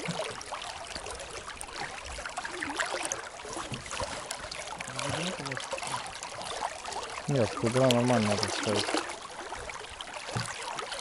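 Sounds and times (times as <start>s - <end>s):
river water babbling: 0.0s - 11.0s.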